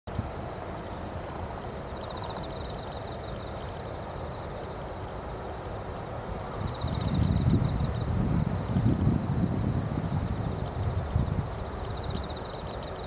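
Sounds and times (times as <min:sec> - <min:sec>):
insects trilling: 0:00.1 - 0:13.0.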